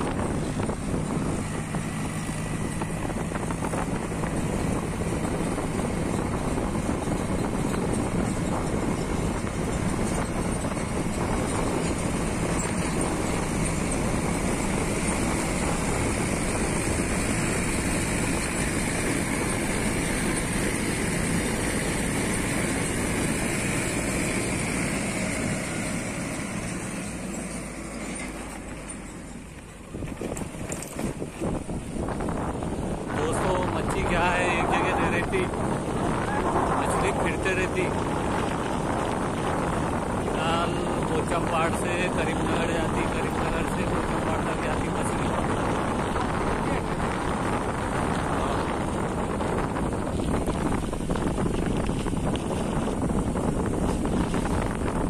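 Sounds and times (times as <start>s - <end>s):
wind noise: 0.0s - 27.0s, 29.5s - 55.0s
road noise: 0.0s - 55.0s
vehicle engine running: 0.0s - 55.0s.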